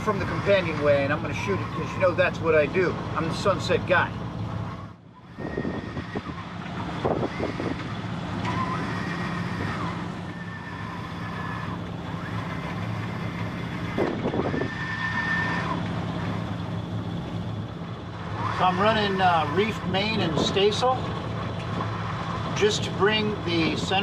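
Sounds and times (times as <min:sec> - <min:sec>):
high whine: 0:00.0 - 0:20.8
wind: 0:00.0 - 0:24.0.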